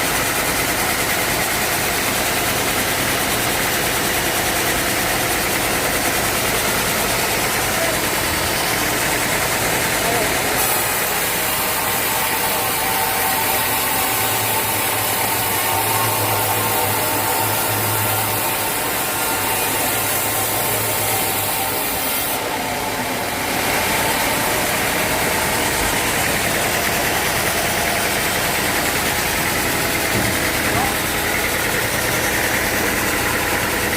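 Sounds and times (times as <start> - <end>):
sawmill engine whining: 0.0 - 33.9.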